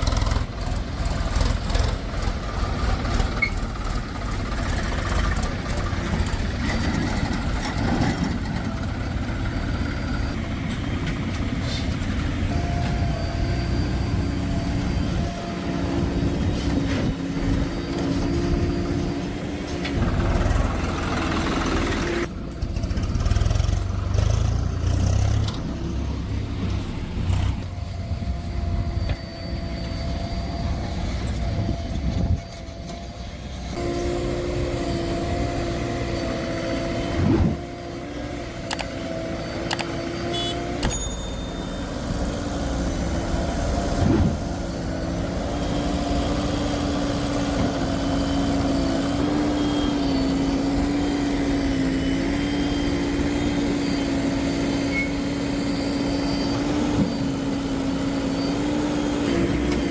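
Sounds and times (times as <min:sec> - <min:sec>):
steady whine: 0:00.0 - 0:23.1, 0:25.5 - 0:59.9
diesel machinery rumble: 0:00.0 - 0:59.9.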